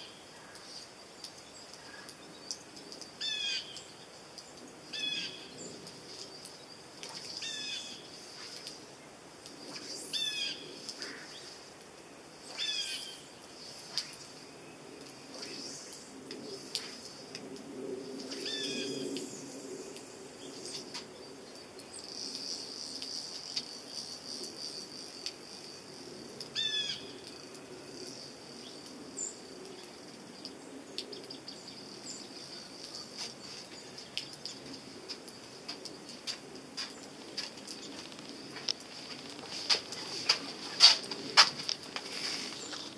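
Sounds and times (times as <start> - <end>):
faint high hiss: 0.0 - 42.9.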